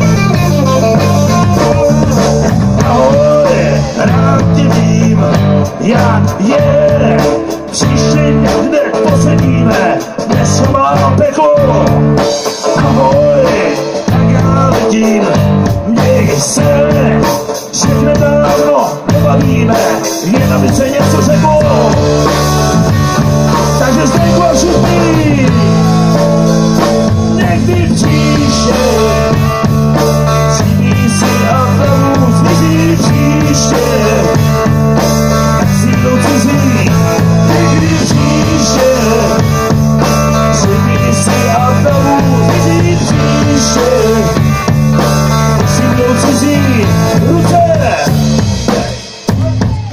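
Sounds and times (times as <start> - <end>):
live rock band playing: 0.0 - 49.9
vocalist singing: 0.0 - 49.9.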